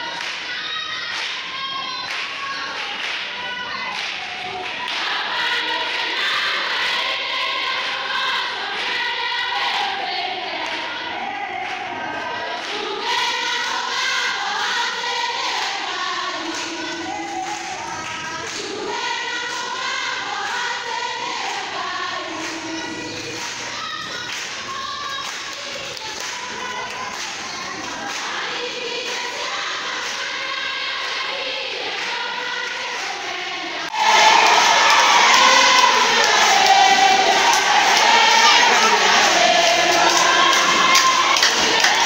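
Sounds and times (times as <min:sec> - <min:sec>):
crowd singing a worship song: 0:00.0 - 0:42.0.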